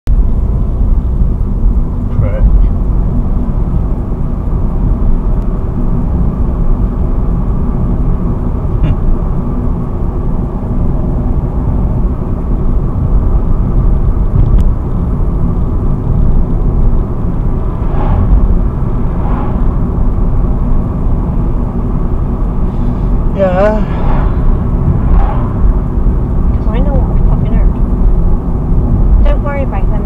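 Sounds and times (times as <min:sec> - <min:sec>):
car engine and road noise: 0:00.1 - 0:30.0.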